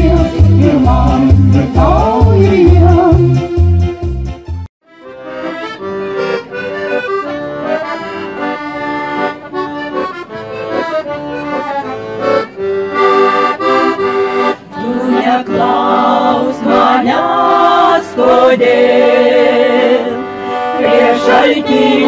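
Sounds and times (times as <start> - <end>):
accordion playing: 0.0 - 22.0.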